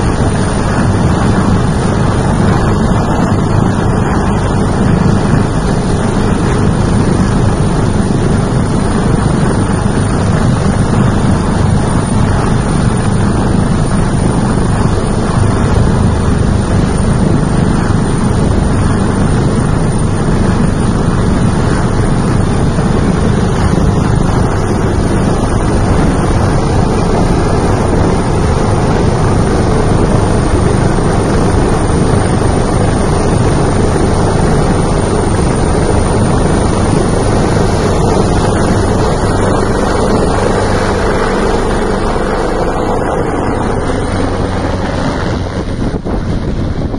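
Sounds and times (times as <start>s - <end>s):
helicopter hovering: 0.0s - 46.9s
thin high whine: 0.0s - 46.9s
wind buffeting microphone: 0.0s - 46.9s.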